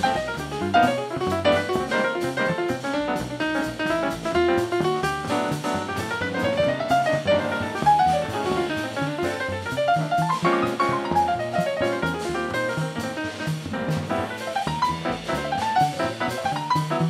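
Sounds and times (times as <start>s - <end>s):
drum kit with cymbals: 0.0s - 17.0s
grand piano runs: 0.0s - 17.0s
upright bass: 0.0s - 17.0s.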